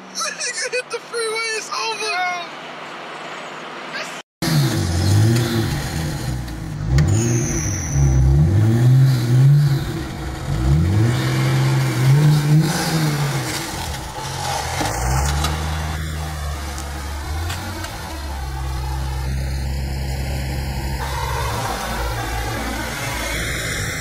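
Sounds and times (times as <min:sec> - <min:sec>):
car engine revving: 0:04.4 - 0:24.0.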